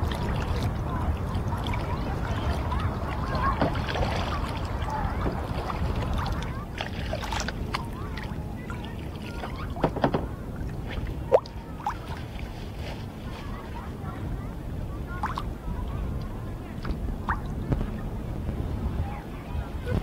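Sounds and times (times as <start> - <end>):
low wind rumble on microphone: 0.0 - 20.0
water lapping against kayak hull: 0.0 - 20.0.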